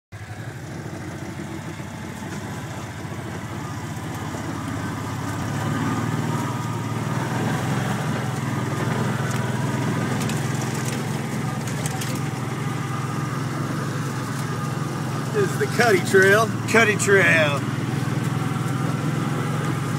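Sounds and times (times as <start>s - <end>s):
utility vehicle engine running: 0.1s - 19.9s.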